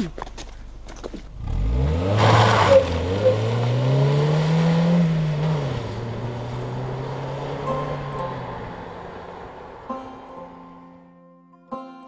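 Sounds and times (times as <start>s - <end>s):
car engine starting and revving: 0.7s - 11.1s.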